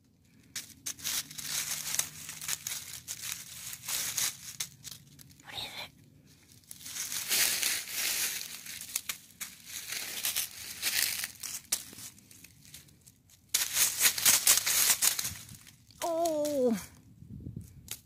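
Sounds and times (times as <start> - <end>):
dry leaves crunching and rustling: 0.4 - 16.8.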